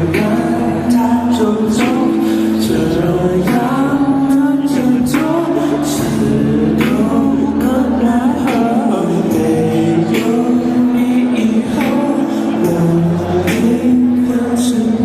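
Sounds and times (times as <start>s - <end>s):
man singing pop ballad: 0.0s - 15.0s.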